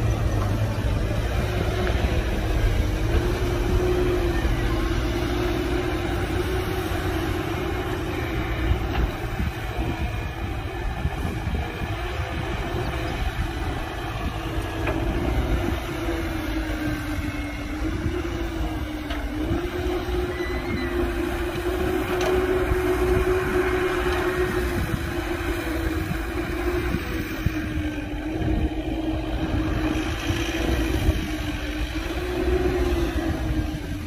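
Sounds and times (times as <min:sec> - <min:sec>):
diesel engine running: 0:00.0 - 0:34.0
machinery whine: 0:00.0 - 0:34.0.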